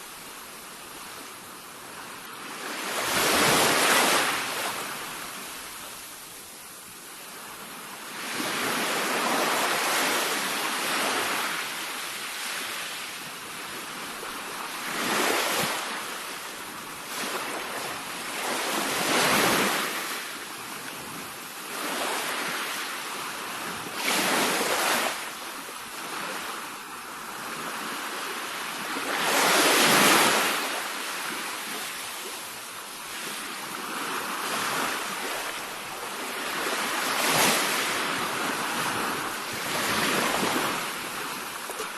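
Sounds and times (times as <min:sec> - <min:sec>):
sea waves breaking on shore: 0:00.1 - 0:06.6, 0:07.2 - 0:41.9.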